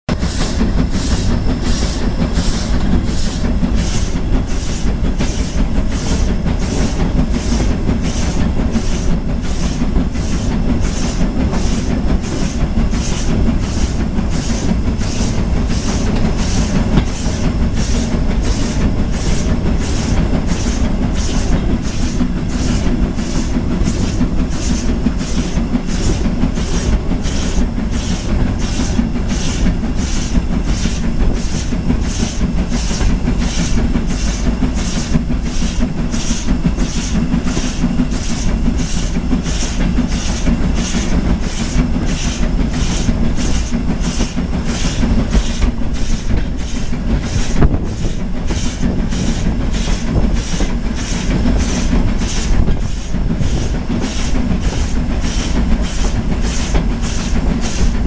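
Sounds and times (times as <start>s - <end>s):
steam locomotive exhaust beats: 0.1s - 58.0s
train wheels rumbling on track: 0.1s - 58.0s.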